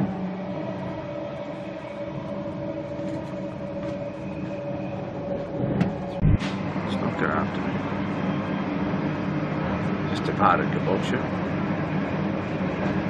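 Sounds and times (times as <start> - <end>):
steady hum: 0.0 - 13.0
train running gear rumble: 0.0 - 13.0.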